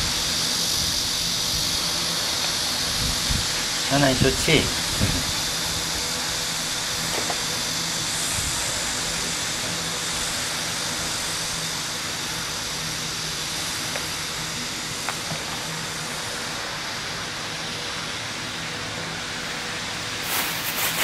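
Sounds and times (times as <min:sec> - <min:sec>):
fan airy hiss and hum: 0:00.0 - 0:21.0.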